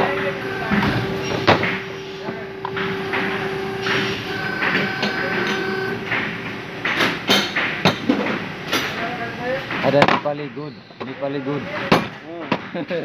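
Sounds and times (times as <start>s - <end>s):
factory machinery hum: 0.0s - 13.0s.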